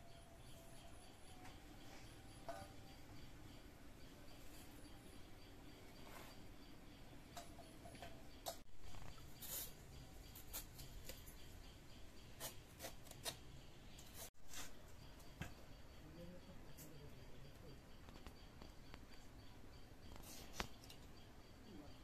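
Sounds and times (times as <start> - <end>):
faint steady background noise: 0.0 - 22.0.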